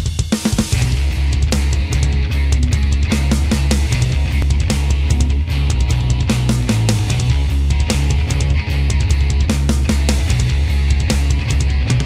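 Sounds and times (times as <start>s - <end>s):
rock music with drums and bass: 0.0s - 12.0s.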